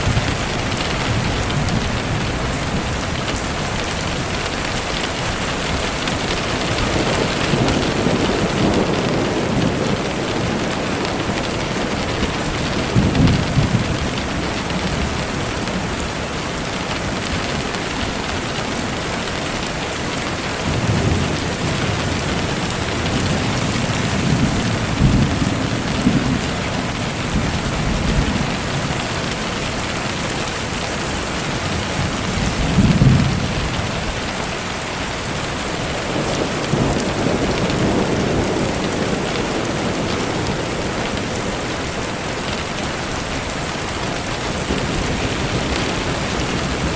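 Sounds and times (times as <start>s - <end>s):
heavy rain falling: 0.0s - 46.9s
thunder rumbling: 0.0s - 46.9s.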